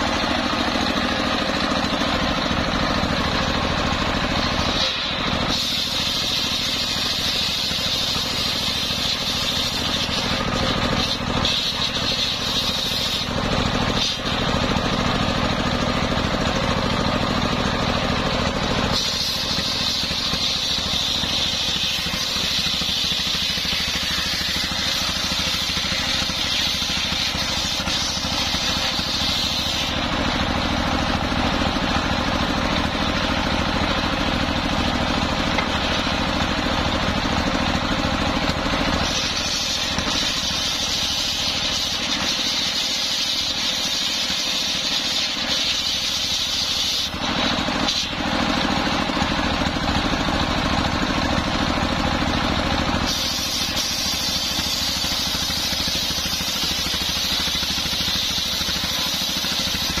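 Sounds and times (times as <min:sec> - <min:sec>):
circular saw cutting wood: 0:00.0 - 1:00.0
stationary engine running: 0:00.0 - 1:00.0.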